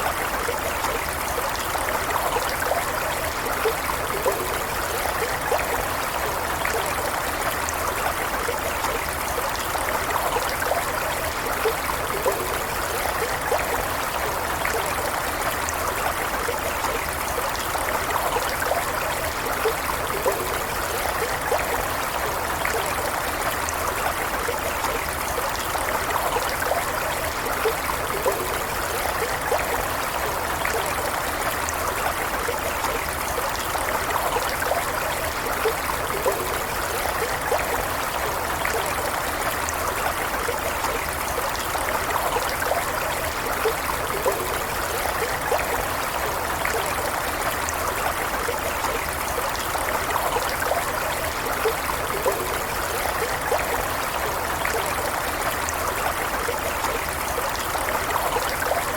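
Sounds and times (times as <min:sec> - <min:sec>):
stream running over stones: 0:00.0 - 0:58.9.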